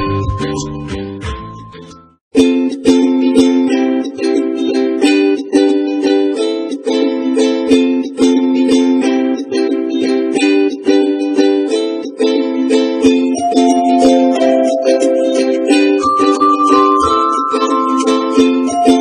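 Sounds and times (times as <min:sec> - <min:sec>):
ukulele-like strumming chords: 0:00.0 - 0:19.0.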